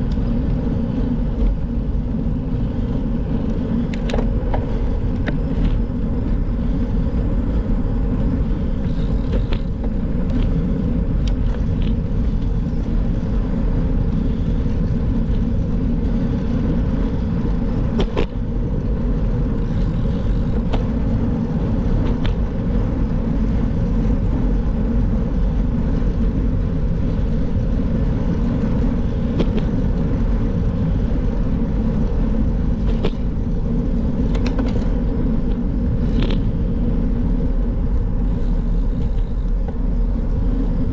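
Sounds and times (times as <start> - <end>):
wind and road noise rumble: 0.0 - 40.9.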